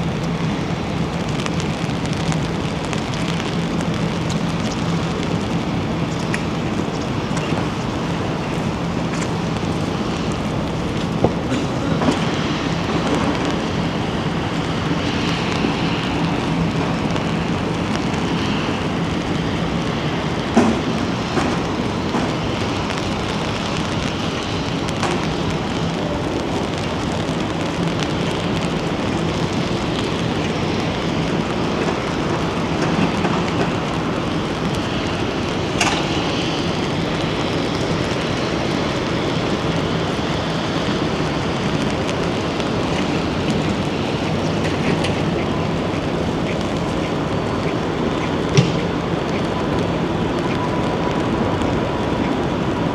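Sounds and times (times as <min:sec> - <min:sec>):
steady rain and wind: 0:00.0 - 0:52.9.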